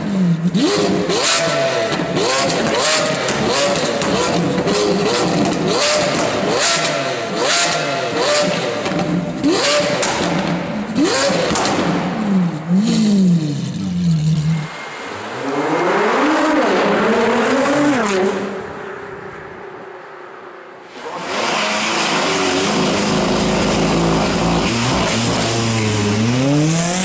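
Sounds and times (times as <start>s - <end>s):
car engine revving: 0.0s - 18.9s, 20.9s - 27.0s
cars accelerating hard: 0.3s - 19.4s, 20.9s - 27.0s.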